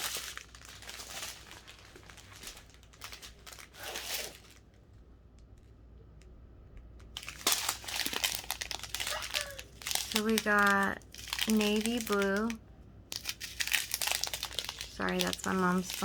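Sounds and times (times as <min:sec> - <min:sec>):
plastic bags crinkling: 0:00.0 - 0:04.8, 0:07.0 - 0:16.0.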